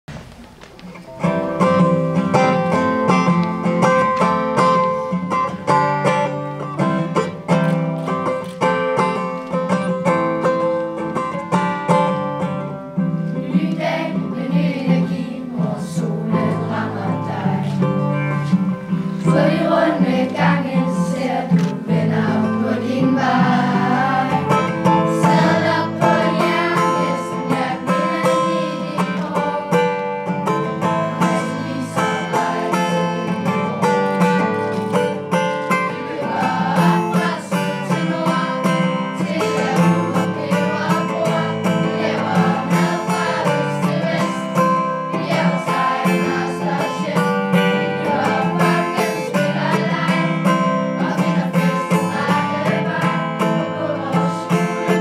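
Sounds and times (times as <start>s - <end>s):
acoustic guitar strumming: 0.1s - 55.0s
children's choir singing: 8.2s - 55.0s.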